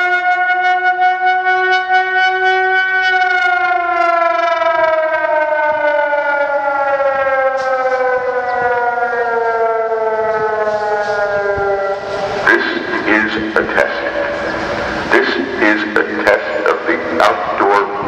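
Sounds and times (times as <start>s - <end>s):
warning siren tone: 0.0s - 18.0s.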